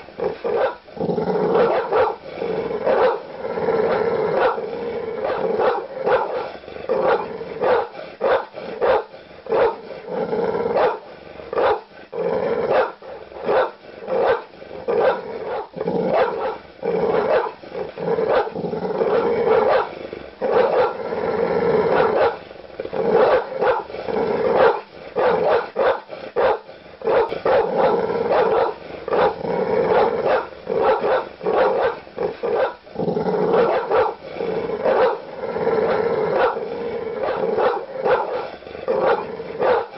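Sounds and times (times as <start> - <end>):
large dog barking aggressively: 0.0 - 39.9.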